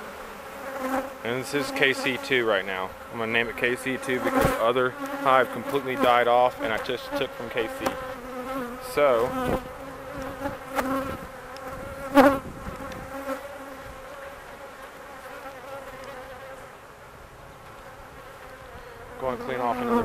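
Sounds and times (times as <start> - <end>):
bee flying close past: 0.0 - 16.7, 17.6 - 20.0
bees buzzing: 0.0 - 20.0.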